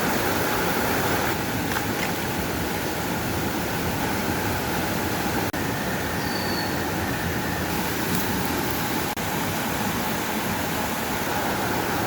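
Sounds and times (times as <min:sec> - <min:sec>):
rushing flowing water: 0:00.0 - 0:12.0.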